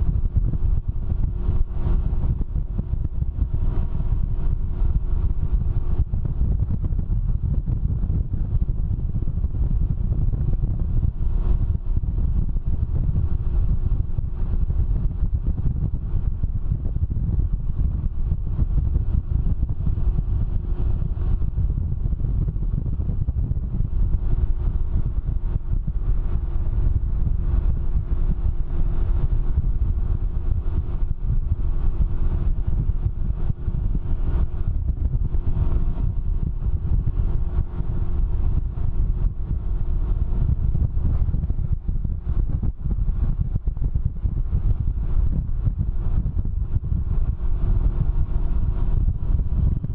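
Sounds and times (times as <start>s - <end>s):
faint engine hum: 0.0s - 49.9s
wind rumble on microphone: 0.0s - 49.9s.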